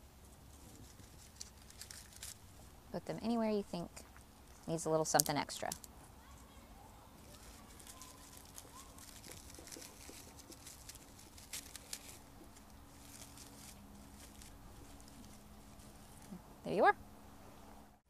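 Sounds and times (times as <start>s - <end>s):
dry stems crackling and rustling: 0.2s - 16.8s.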